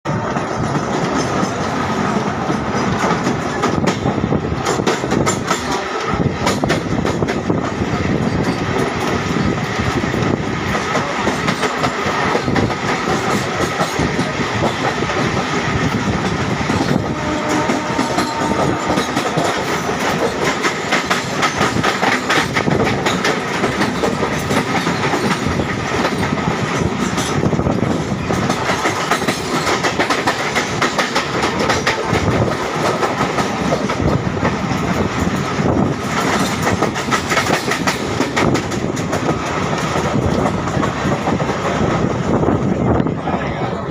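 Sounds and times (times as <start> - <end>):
train wheels clickety-clack on rails: 0.1 - 43.9.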